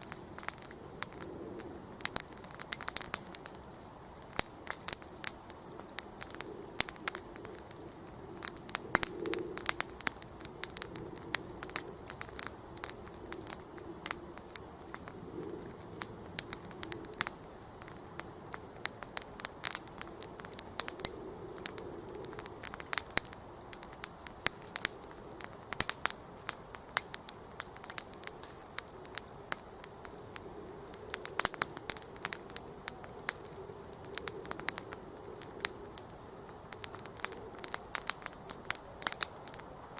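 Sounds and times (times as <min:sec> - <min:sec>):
campfire crackling and popping: 0:00.0 - 0:39.9
fire hissing: 0:00.0 - 0:39.9.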